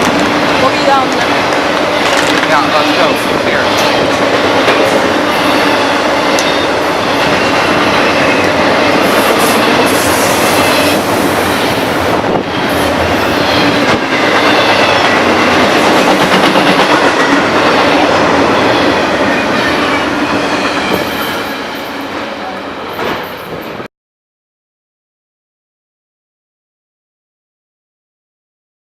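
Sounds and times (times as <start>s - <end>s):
train wheels rushing on rails: 0.0s - 23.9s.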